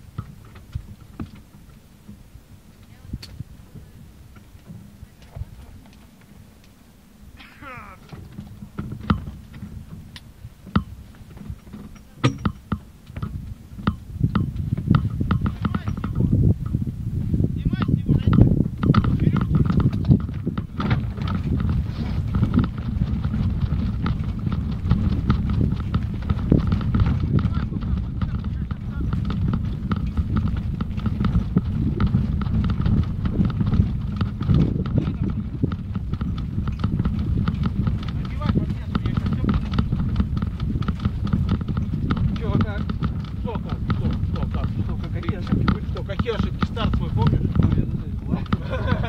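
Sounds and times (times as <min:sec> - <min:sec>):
wind rumbling on microphone: 0:00.0 - 0:49.0
sharp clicks and knocks: 0:08.0 - 0:16.8, 0:17.7 - 0:49.0.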